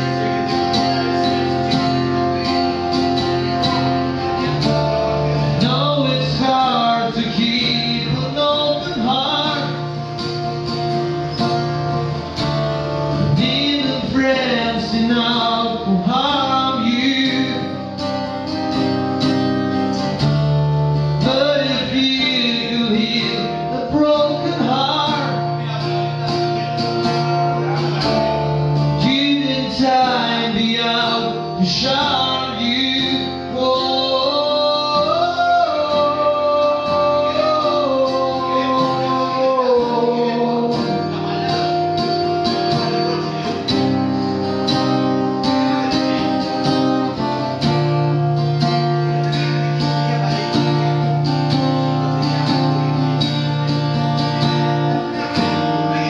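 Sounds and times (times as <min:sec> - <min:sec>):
man singing: 0:00.0 - 0:11.3, 0:12.2 - 0:19.0, 0:19.9 - 0:56.0
acoustic guitar: 0:00.0 - 0:56.0.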